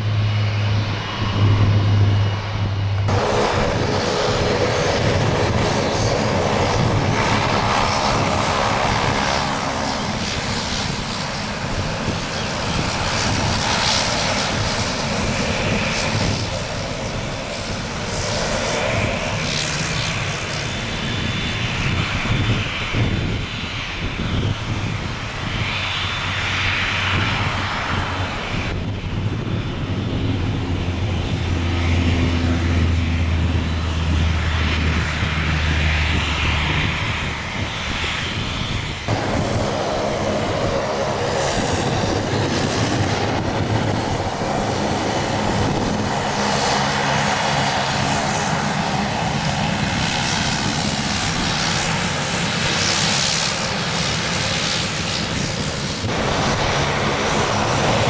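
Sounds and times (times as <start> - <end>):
low drone: 0.0 - 21.3, 27.1 - 58.0
jet engines whining: 0.0 - 58.0.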